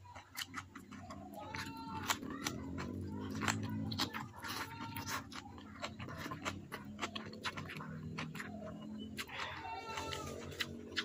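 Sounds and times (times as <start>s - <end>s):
close-miked chewing: 0.0s - 11.0s.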